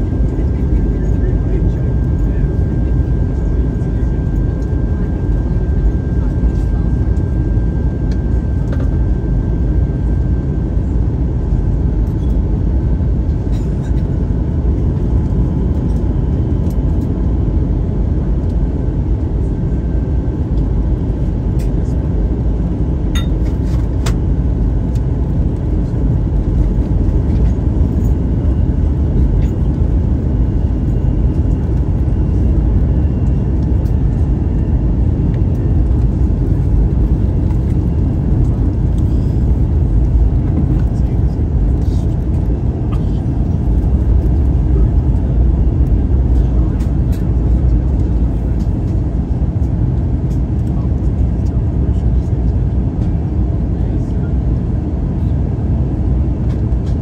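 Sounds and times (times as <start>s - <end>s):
airliner cabin engine rush: 0.0s - 57.0s.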